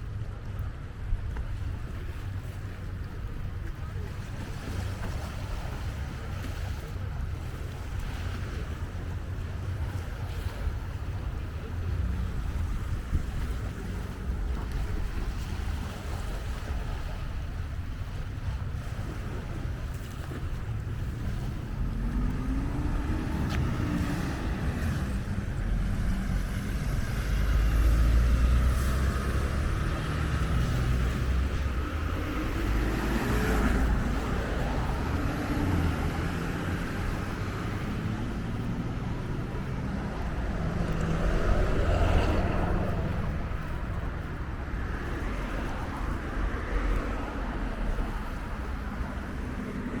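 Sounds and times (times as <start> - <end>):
low traffic rumble: 0.0 - 50.0
cars passing: 1.6 - 50.0.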